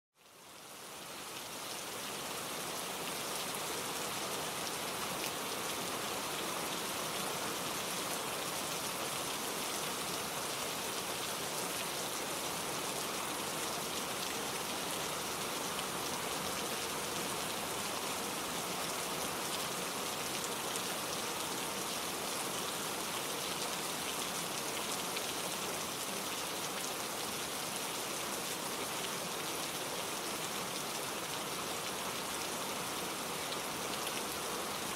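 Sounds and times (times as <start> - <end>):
steady rainfall hiss: 0.2 - 34.9.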